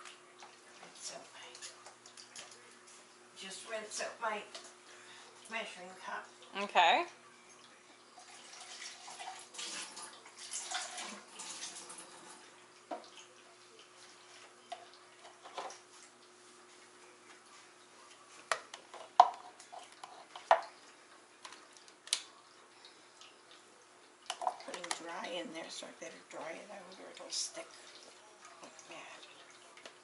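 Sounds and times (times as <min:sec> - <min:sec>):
kitchen faucet running: 0:03.5 - 0:16.8, 0:18.5 - 0:30.0.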